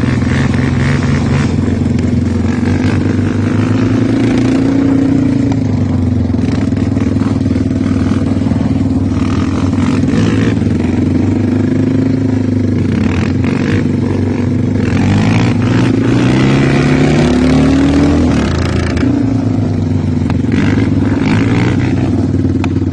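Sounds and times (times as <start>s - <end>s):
quad engine revving: 0.0s - 22.9s.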